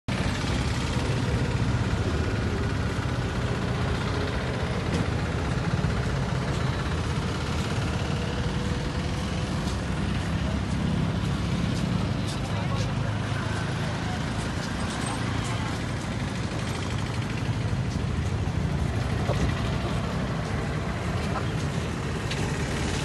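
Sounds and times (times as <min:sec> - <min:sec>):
road traffic rumble: 0:00.1 - 0:23.0.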